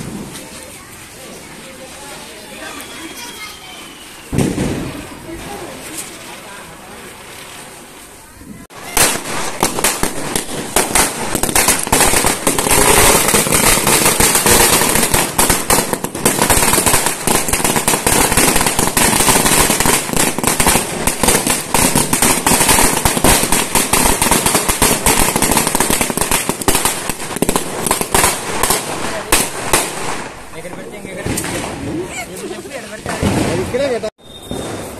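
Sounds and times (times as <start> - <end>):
firecrackers banging: 0.0 - 6.1, 8.6 - 34.9.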